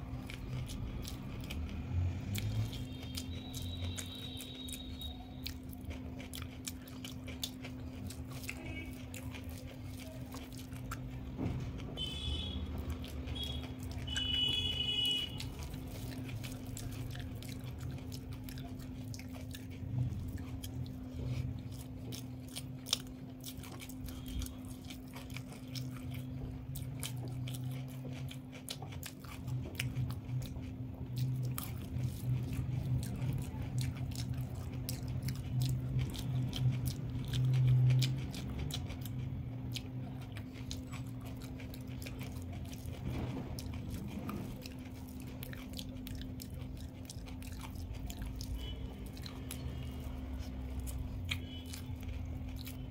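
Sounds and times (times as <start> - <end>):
person chewing food: 0.0 - 52.9.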